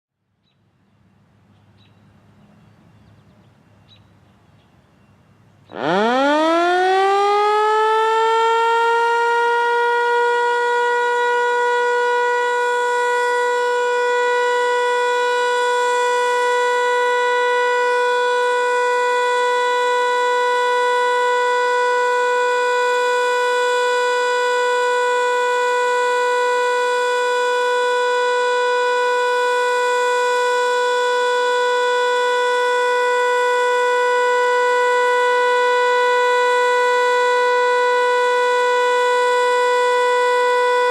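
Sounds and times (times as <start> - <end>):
warning siren steady tone: 5.7 - 40.9.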